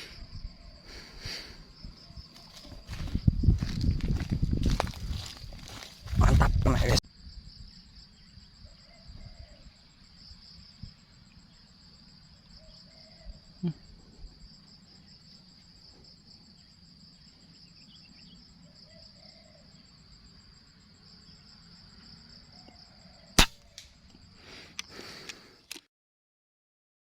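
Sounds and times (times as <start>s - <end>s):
insects chirring: 0.0s - 25.7s.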